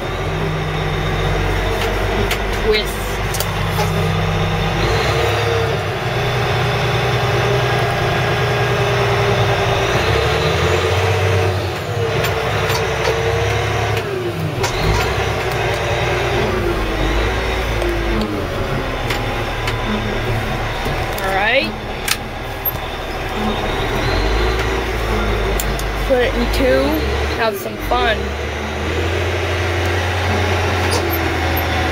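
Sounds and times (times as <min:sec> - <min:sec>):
wheel loader diesel engine: 0:00.0 - 0:31.9.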